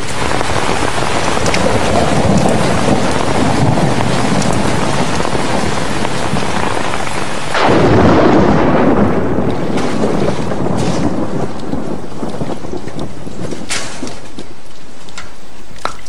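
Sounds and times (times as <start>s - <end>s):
thunder rumble: 0.0s - 15.1s
heavy rain: 0.0s - 16.0s.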